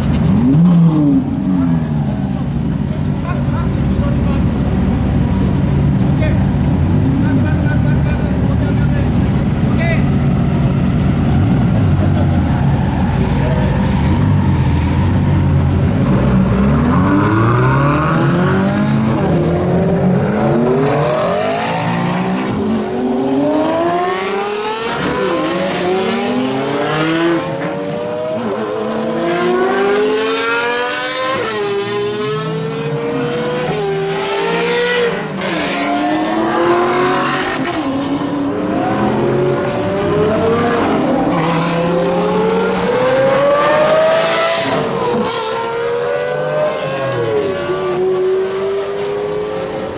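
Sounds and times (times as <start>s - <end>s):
sports car engines accelerating: 0.0s - 49.9s.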